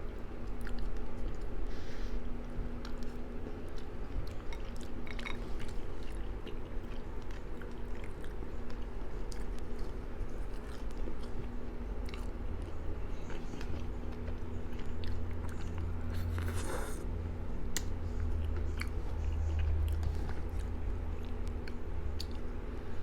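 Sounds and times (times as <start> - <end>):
steady low hum: 0.0 - 23.0
person chewing with wet smacks: 0.3 - 1.7, 2.3 - 17.1, 17.7 - 22.6.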